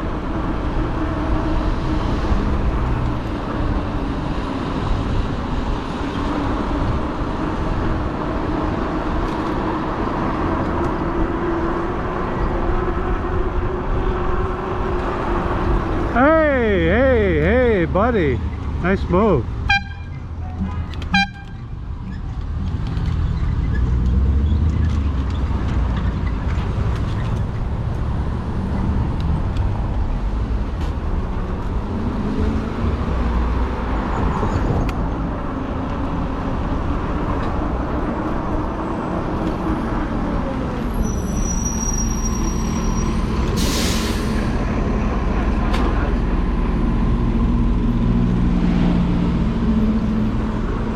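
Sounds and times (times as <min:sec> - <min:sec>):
traffic passing: 0:00.0 - 0:50.9
wind and road noise: 0:00.0 - 0:50.9.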